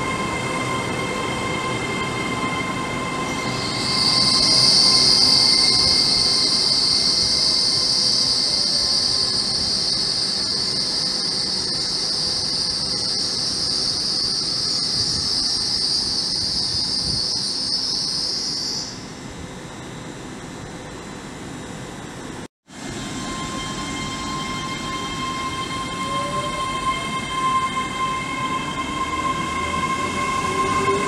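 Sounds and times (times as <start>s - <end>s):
train rumbling: 0.0s - 17.7s, 22.7s - 31.0s
train wheels squealing on rails: 0.0s - 19.2s, 22.8s - 31.0s.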